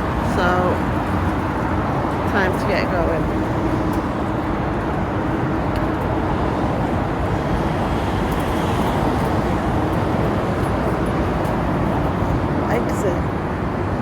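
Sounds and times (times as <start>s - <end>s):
road traffic roar: 0.0s - 14.0s.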